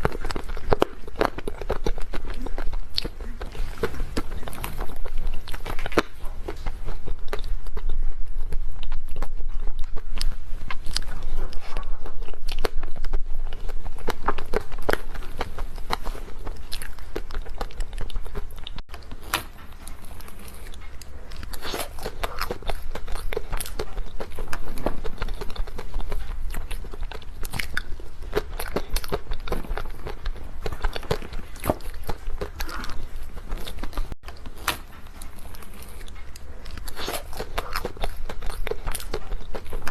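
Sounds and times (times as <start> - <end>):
biting and chewing: 0.0 - 39.9.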